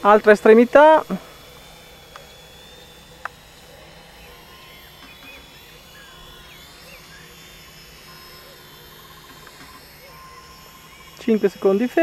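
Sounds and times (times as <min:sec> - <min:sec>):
distant quadcopter humming: 0:00.0 - 0:12.0.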